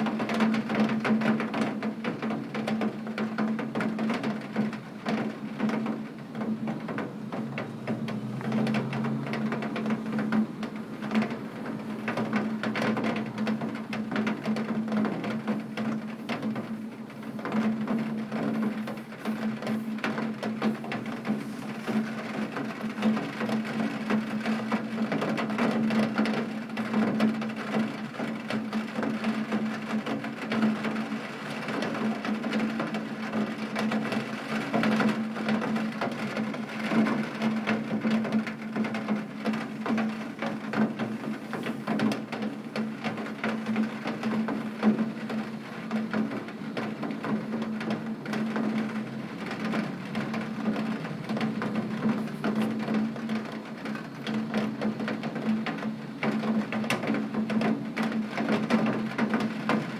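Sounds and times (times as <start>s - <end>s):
rain pattering on window: 0.0s - 59.9s.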